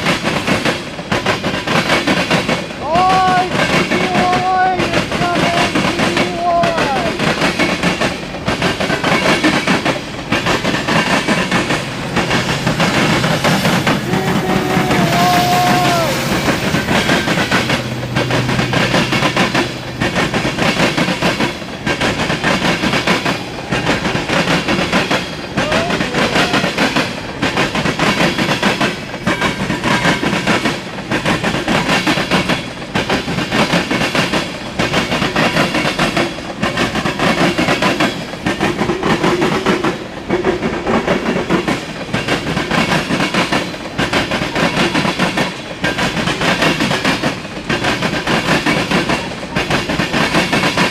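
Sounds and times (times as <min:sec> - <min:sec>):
train wheels clattering over rail joints: 0:00.0 - 0:50.9.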